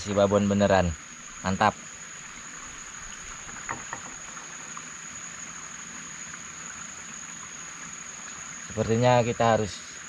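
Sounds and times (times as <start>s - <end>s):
even hiss: 0.0s - 10.0s
high-pitched insect drone: 0.0s - 10.0s.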